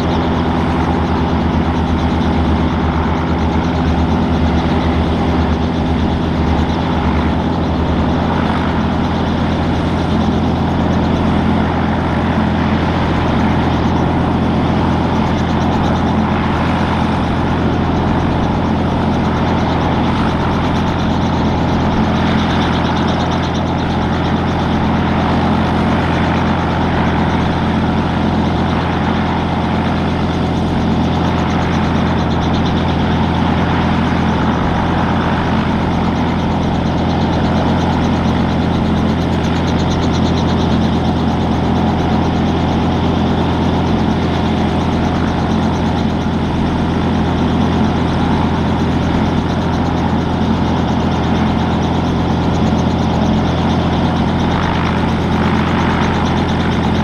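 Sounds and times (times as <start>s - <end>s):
helicopter engine and rotors drone: 0.0s - 57.0s.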